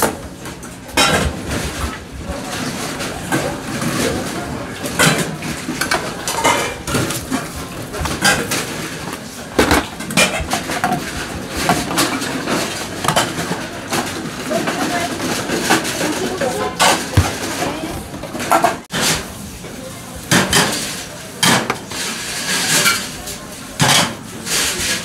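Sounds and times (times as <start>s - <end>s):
metal bowls clattering on trays: 0.0s - 19.3s, 20.2s - 25.0s.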